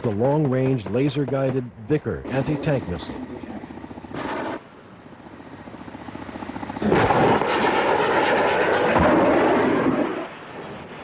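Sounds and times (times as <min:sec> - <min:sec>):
helicopter rotors beating: 0:00.0 - 0:11.0.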